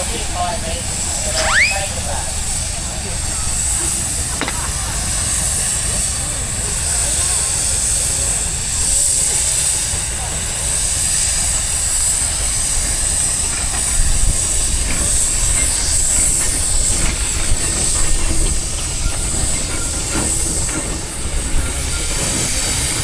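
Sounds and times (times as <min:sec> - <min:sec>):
steam engines hissing: 0:00.0 - 0:23.0.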